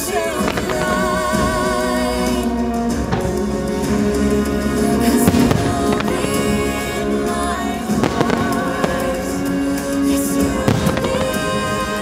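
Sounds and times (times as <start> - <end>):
fireworks bangs: 0.0 - 12.0
soundtrack music: 0.0 - 12.0.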